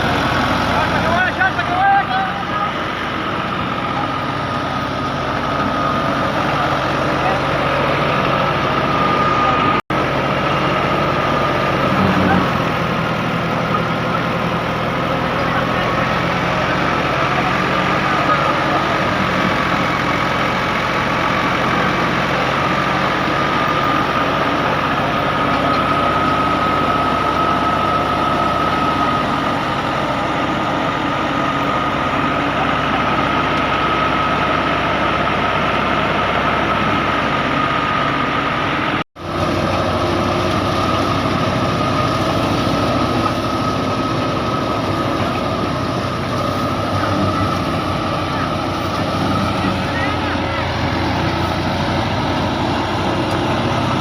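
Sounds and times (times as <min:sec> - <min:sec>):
harvesting machinery engine drone: 0:00.0 - 0:54.0
steady machine whine: 0:00.0 - 0:54.0.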